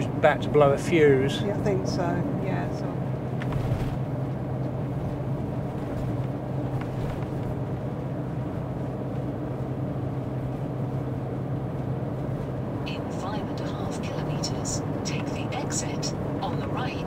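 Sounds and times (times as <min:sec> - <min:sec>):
engine and road noise drone: 0:00.0 - 0:17.0.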